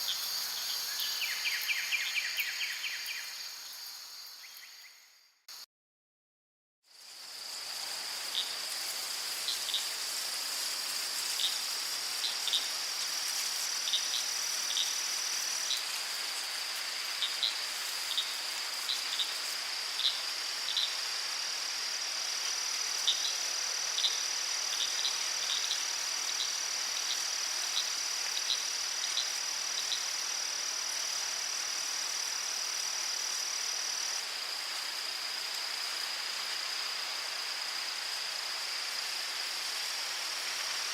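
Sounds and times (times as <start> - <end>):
crickets trilling: 0.0 - 5.6, 6.9 - 40.9.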